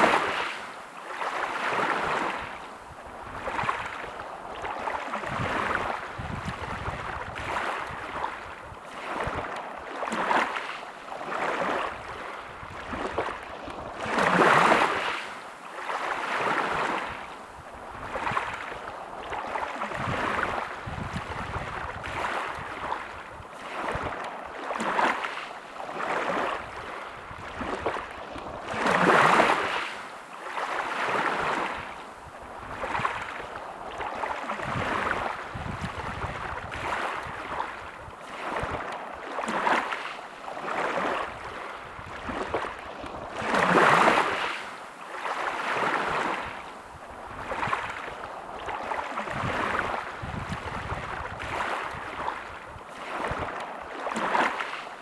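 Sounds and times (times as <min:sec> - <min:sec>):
big waves breaking: 0:00.0 - 0:55.0
sea waves washing onto shore: 0:00.0 - 0:55.0.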